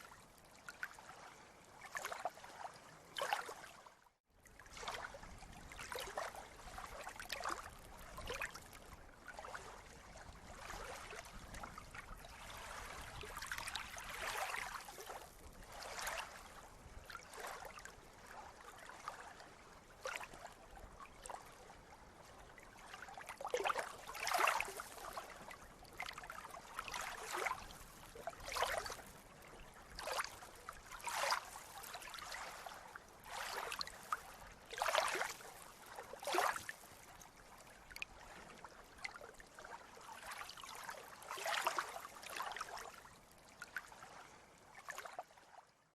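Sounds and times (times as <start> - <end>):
sea water lapping and splashing: 0.0 - 45.9.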